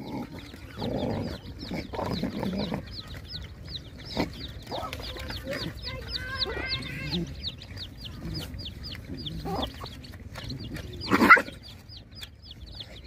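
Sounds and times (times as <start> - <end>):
chick peeping: 0.0 - 13.0
dogs chewing and slurping food: 0.0 - 13.0
hen clucking: 0.0 - 13.0.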